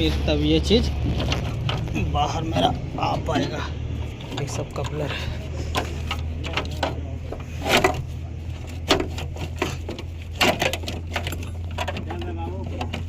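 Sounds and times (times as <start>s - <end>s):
wiring clicks and rattles: 0.0s - 13.0s.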